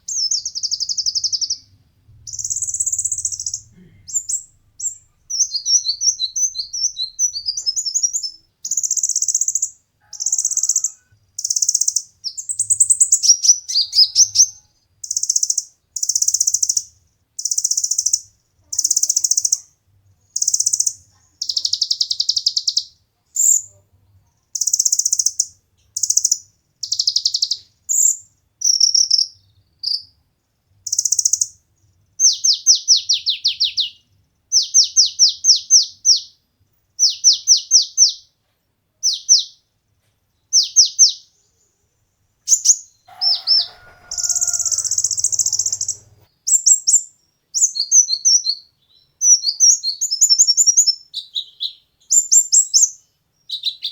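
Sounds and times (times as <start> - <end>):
sunbird singing: 0.0 - 23.7, 24.4 - 30.1, 30.8 - 31.6, 32.2 - 36.4, 40.5 - 41.8, 42.5 - 53.9.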